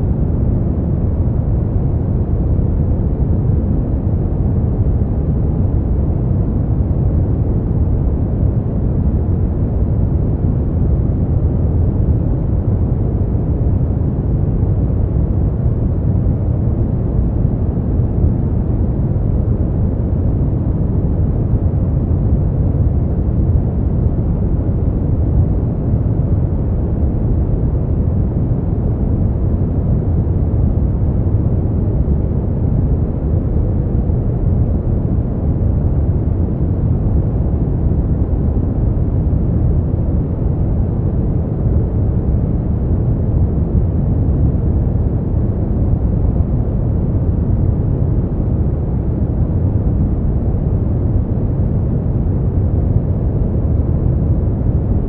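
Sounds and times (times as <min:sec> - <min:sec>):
deep brown noise: 0:00.0 - 0:55.0.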